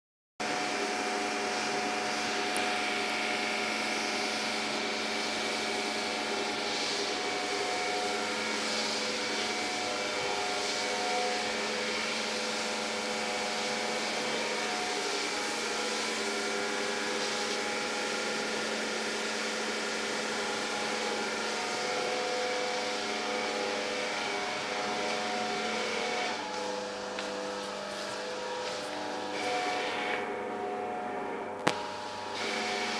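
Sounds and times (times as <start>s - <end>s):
mechanical hum with whining tones: 0.4s - 32.9s.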